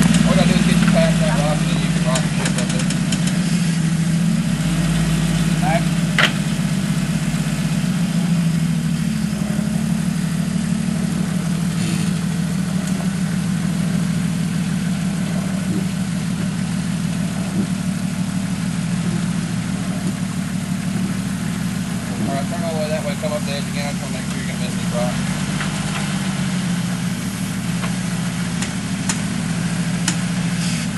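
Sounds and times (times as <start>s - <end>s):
vehicle engine idling: 0.0s - 30.9s.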